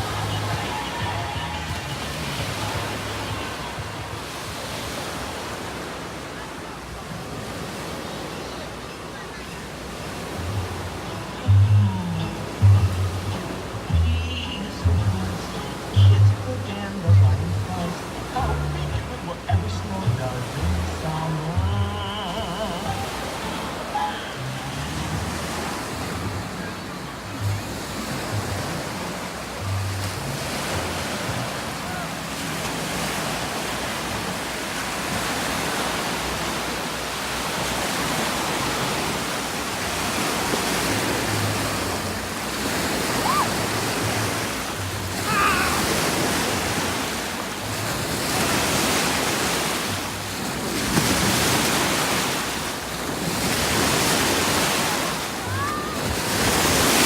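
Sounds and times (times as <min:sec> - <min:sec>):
splashing water rushing: 0:00.0 - 0:57.0.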